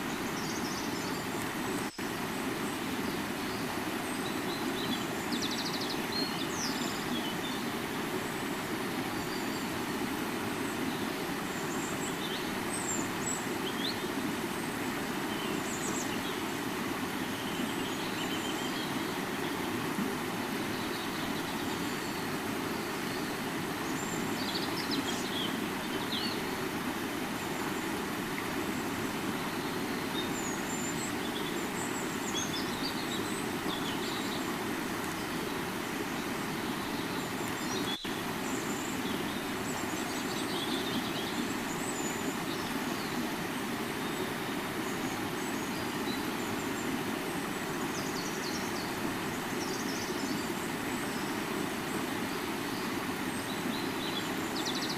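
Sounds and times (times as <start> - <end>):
river water rushing: 0.0 - 54.9
birds chirping: 10.5 - 54.9.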